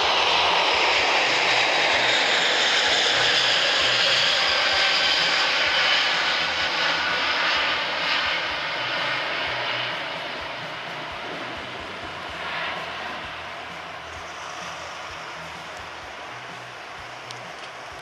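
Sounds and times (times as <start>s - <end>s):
jet engines rumbling and hissing: 0.0s - 18.0s.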